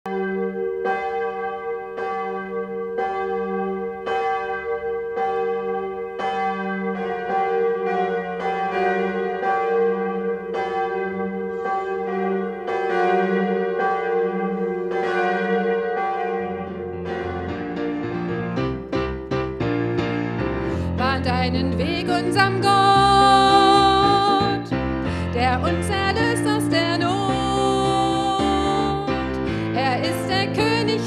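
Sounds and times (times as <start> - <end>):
church bells ringing: 0.1 - 31.0.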